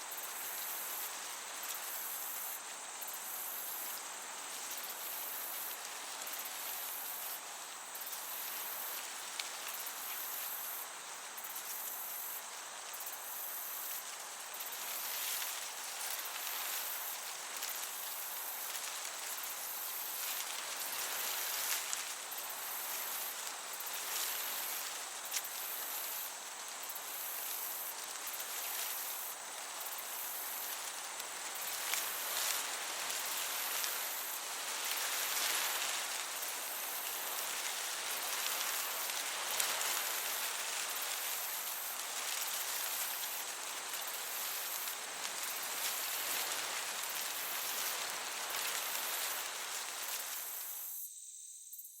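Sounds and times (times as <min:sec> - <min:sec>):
breeze through grass: 0:00.0 - 0:51.2
crickets chirping: 0:00.0 - 0:52.0.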